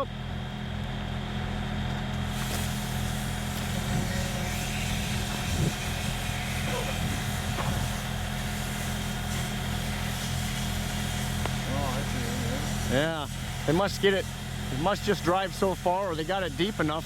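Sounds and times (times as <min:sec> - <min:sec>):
diesel engine throbbing hum: 0:00.0 - 0:17.0.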